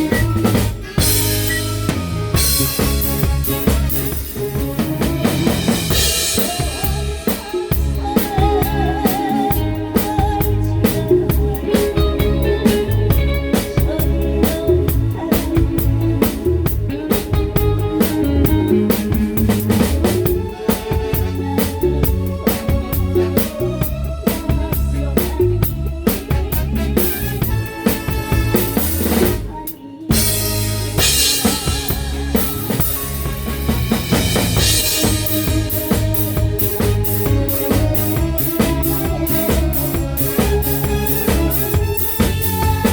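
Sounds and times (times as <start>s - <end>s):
drum kit beat: 0.0s - 42.9s
live band playing: 0.0s - 42.9s.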